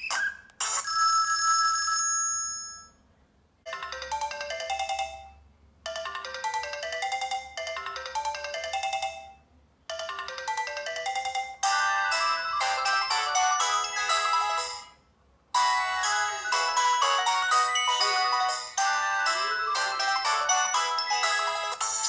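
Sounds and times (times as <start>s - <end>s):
busy ringtone tune: 0.6s - 3.0s, 3.7s - 15.0s, 15.6s - 22.0s
phone ringtone chime: 0.6s - 3.0s, 3.7s - 15.0s, 15.6s - 22.0s
ringtone melody: 3.7s - 15.0s, 15.6s - 22.0s.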